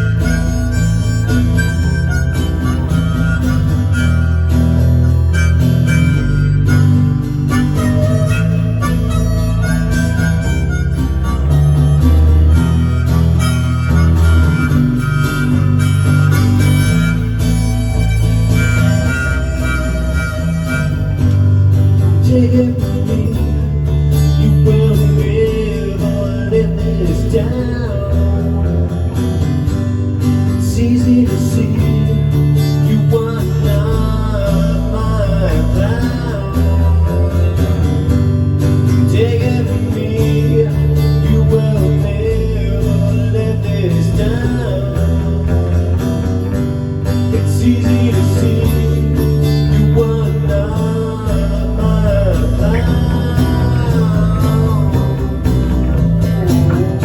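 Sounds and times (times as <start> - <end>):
bass line: 0.0 - 57.0
lead guitar bending notes: 0.0 - 57.0
strummed acoustic guitars: 0.0 - 57.0.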